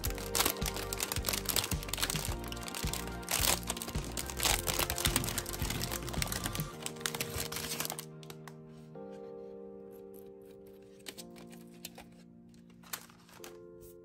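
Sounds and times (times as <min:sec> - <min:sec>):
plastic wrapper crackling: 0:00.0 - 0:08.6, 0:10.5 - 0:14.0
background music: 0:00.0 - 0:14.0.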